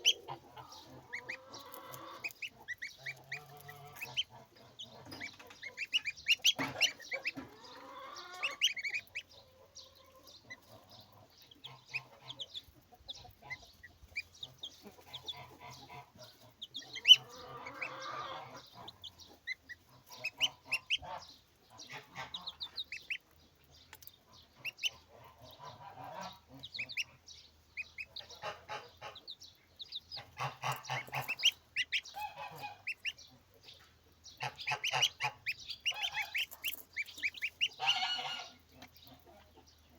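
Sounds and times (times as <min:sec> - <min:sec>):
high peeping chicks: 0:00.0 - 0:39.9
poultry clucking and honking: 0:00.0 - 0:39.9.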